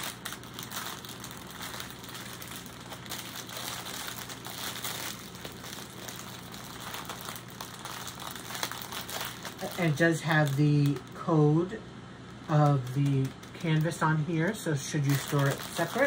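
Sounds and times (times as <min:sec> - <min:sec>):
plastic bags crinkling: 0:00.0 - 0:11.2, 0:12.3 - 0:16.0
faint low hum: 0:00.0 - 0:16.0.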